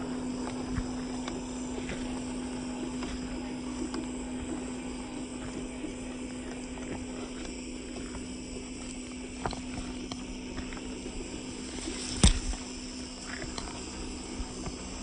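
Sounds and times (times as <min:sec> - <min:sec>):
rc car motor hum: 0:00.0 - 0:15.0.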